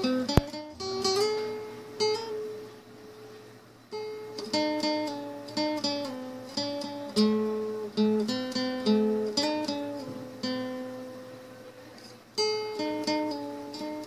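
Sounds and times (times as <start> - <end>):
acoustic guitar melody: 0.0 - 14.0.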